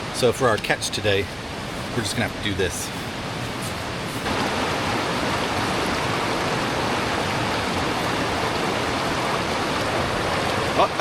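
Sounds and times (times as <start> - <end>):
mountain creek rushing: 0.0 - 11.0.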